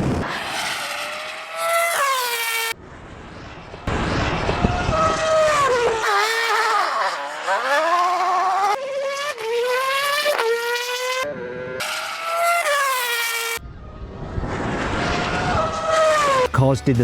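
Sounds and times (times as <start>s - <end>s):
racing car engine at high revs: 0.0s - 16.6s.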